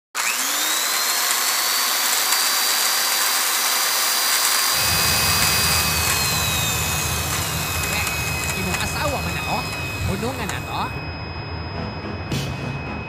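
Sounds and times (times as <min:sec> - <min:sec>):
jet engine whine: 0:00.2 - 0:13.0.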